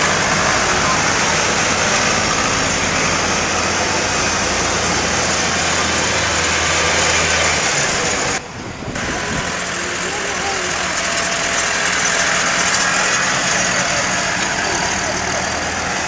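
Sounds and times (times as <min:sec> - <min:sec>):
broad rushing noise: 0:00.0 - 0:16.0
tractor engines droning: 0:00.0 - 0:16.0.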